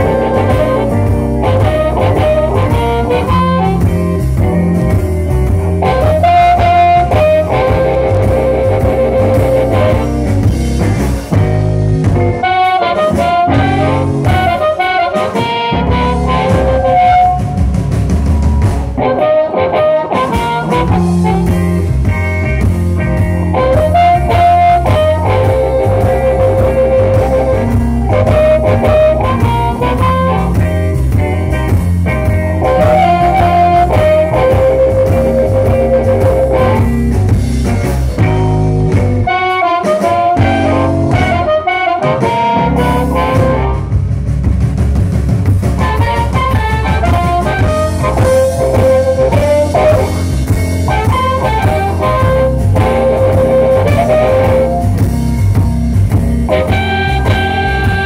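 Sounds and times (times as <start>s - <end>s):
amplified harmonica: 0.0s - 10.5s, 12.0s - 17.9s, 19.0s - 31.3s, 32.6s - 37.3s, 38.2s - 43.9s, 45.8s - 58.0s
blues band playing: 0.0s - 58.0s.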